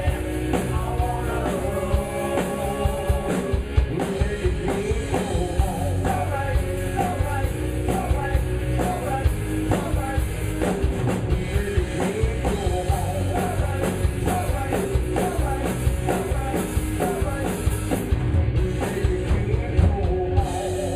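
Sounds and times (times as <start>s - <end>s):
drum kit beat: 0.0s - 20.9s
live rock band playing: 0.0s - 20.9s.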